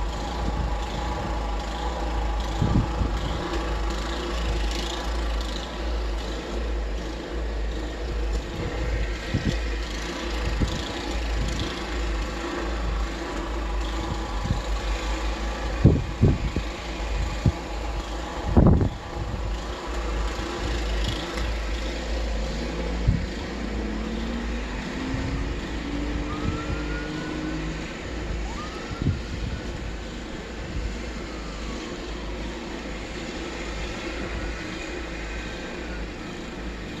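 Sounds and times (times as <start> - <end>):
engine rumbling: 0.0 - 37.0
rising whine: 0.0 - 37.0.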